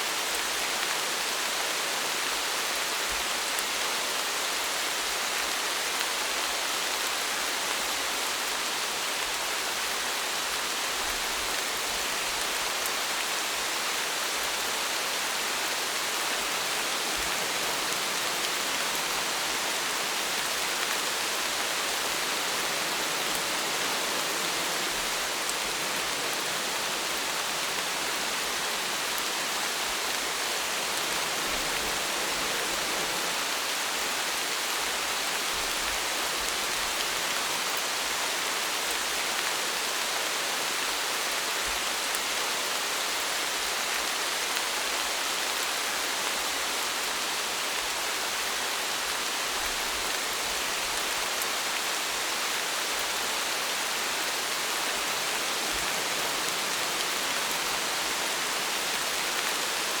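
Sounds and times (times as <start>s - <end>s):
rain on a surface: 0.0s - 60.0s.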